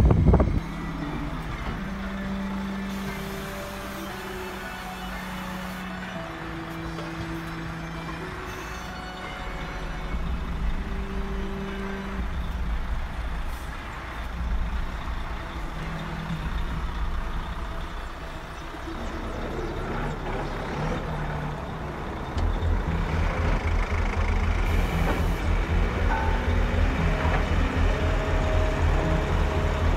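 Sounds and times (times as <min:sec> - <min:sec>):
diesel engine rumble: 0:00.0 - 0:29.9.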